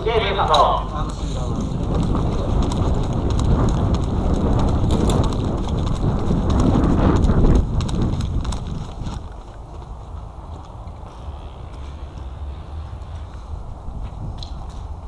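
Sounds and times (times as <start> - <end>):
quick footfalls: 0.0 - 15.0
clothing and gear rustling: 0.1 - 15.0.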